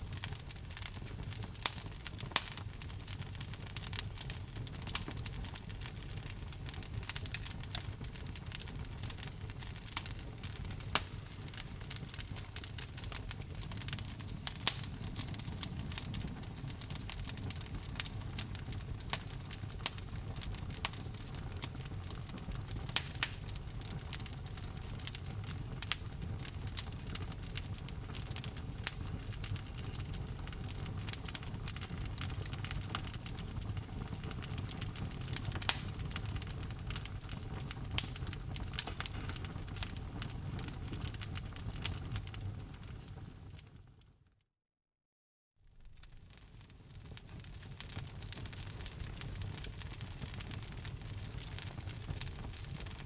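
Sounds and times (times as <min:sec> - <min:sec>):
wood crackling and popping: 0:00.0 - 0:43.6, 0:45.8 - 0:53.0
low rumble of flames: 0:00.0 - 0:44.0, 0:45.7 - 0:53.0.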